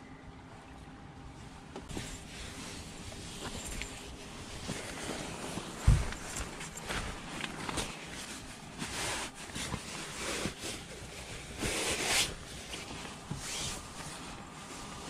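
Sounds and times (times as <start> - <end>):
sleeping bag fabric rustling: 1.9 - 15.0.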